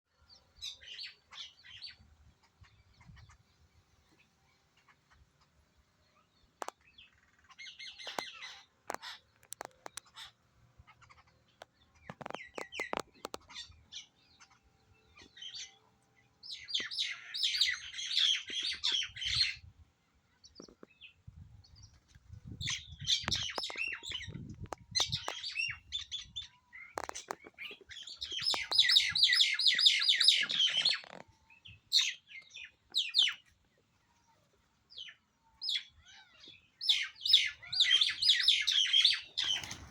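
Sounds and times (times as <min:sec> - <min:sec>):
birds chirping: 0:00.1 - 0:39.9.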